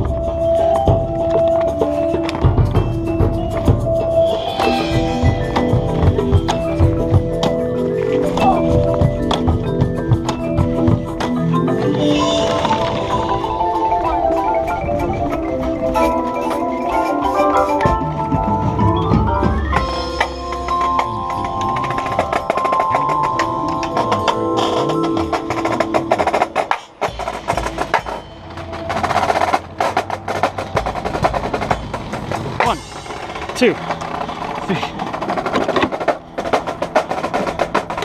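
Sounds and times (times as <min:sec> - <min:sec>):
marimba chords and runs: 0:00.0 - 0:38.0.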